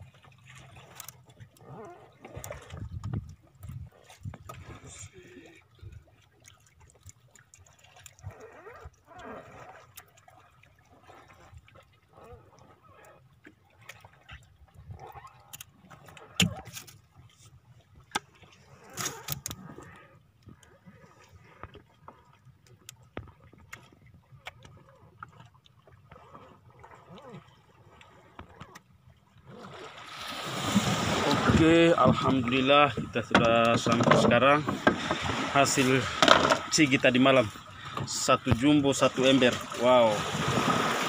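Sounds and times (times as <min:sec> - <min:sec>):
water splashing and dripping: 0:00.0 - 0:17.4, 0:20.6 - 0:41.0.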